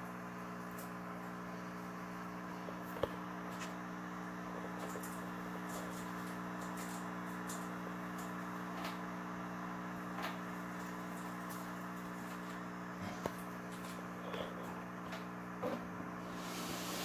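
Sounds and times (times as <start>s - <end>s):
low mechanical motor hum: 0.0s - 17.0s.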